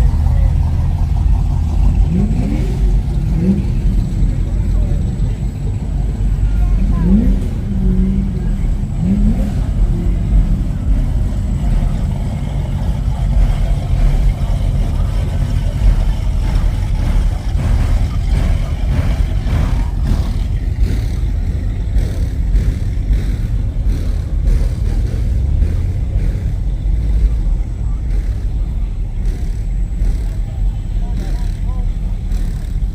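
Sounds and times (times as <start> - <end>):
car engines rumbling: 0.0 - 32.9
faint voices: 0.0 - 32.9.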